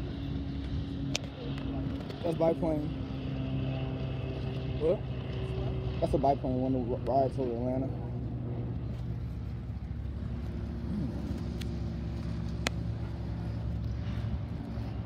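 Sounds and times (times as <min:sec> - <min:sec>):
propeller plane engine idling: 0:00.0 - 0:15.0.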